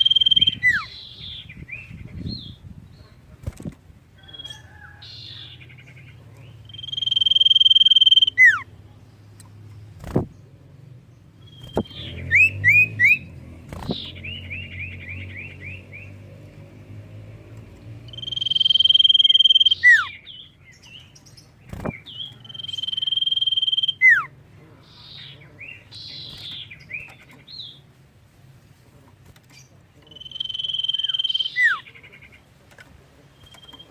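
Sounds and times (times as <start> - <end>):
bird chirping: 0.0 - 3.6, 4.2 - 28.0, 28.9 - 33.9.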